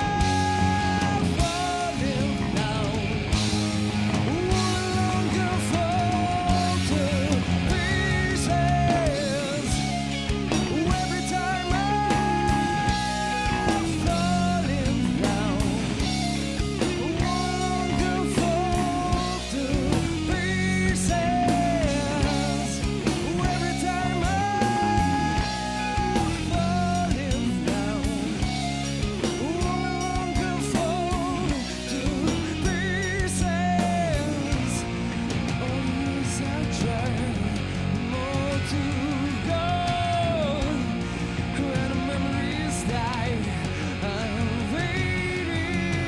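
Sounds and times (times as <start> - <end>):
live rock band playing: 0.0 - 46.0.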